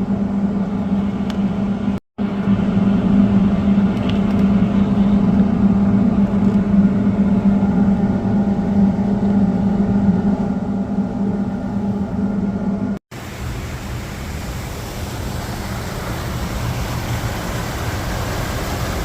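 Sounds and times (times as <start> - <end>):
turbine and generator humming: 0.0 - 19.0.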